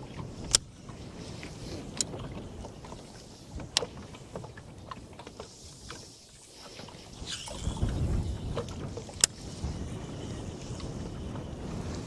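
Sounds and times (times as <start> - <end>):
water sloshing against boat hull: 0.0 - 12.0.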